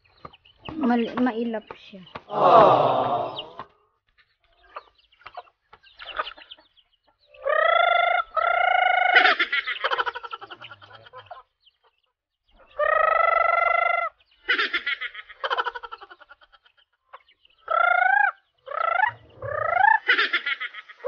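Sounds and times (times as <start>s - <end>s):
chickens squawking and clucking: 2.2s - 21.0s.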